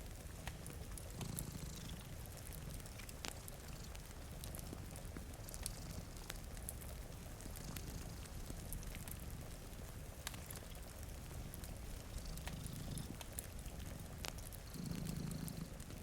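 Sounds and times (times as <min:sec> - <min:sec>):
cat purring: 0:00.0 - 0:16.0
steady rain: 0:00.0 - 0:16.0
wood fire crackling: 0:00.0 - 0:16.0.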